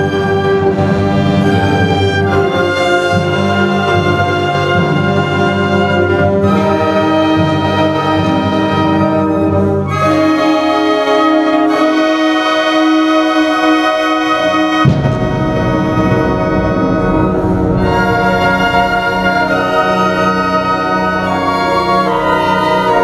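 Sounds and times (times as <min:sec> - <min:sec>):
brass band playing held chords: 0:00.0 - 0:23.0.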